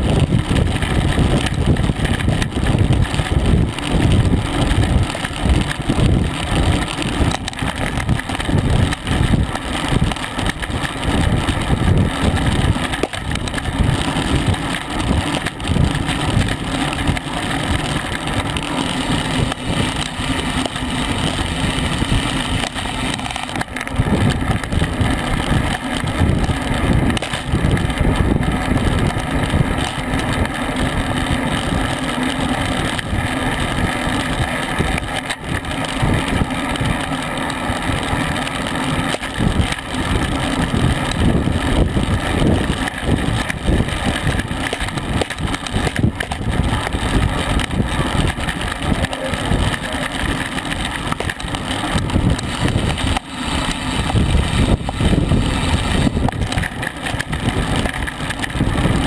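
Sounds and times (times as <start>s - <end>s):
wind buffeting microphone: 0.0s - 38.4s, 39.0s - 59.0s
bicycle road and tyre noise: 0.0s - 59.0s.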